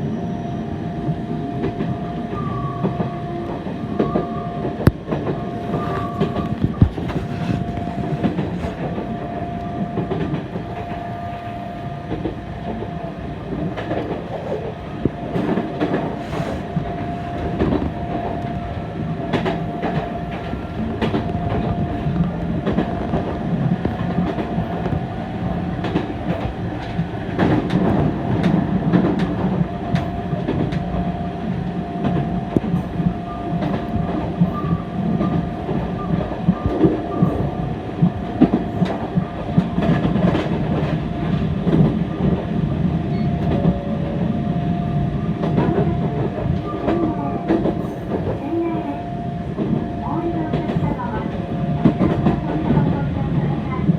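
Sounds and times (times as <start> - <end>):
tram motor whine: 0.0 - 53.9
wheels rumbling on rail: 0.0 - 53.9
rail joint clicks: 1.1 - 53.9.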